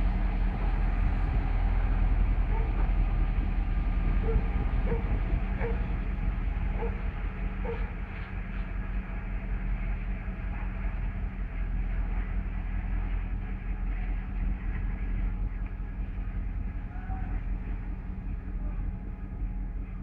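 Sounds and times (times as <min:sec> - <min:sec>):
diesel locomotive droning: 0:00.0 - 0:20.0.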